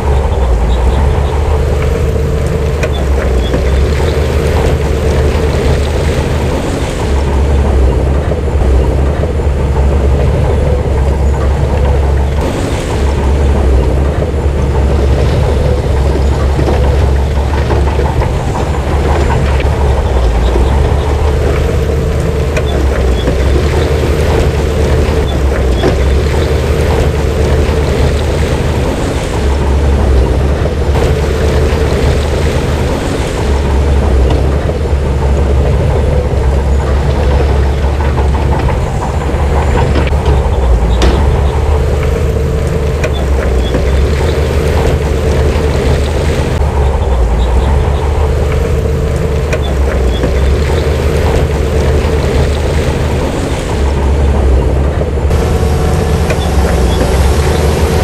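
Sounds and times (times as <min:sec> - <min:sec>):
heavy diesel engine rumble: 0:00.0 - 0:58.0
light clanking: 0:00.0 - 0:58.0.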